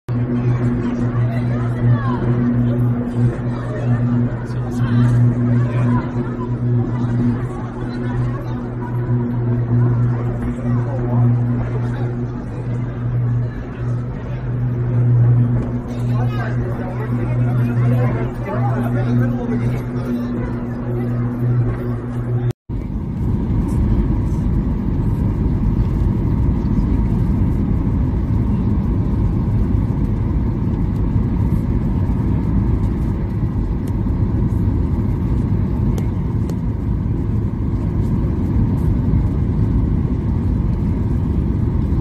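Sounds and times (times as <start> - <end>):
airliner cabin drone: 0.1 - 42.0
faint hum: 0.1 - 42.0.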